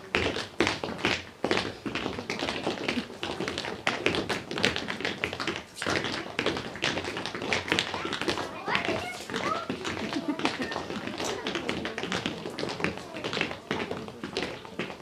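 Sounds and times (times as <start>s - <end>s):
footsteps on hard stage floor: 0.0s - 15.0s.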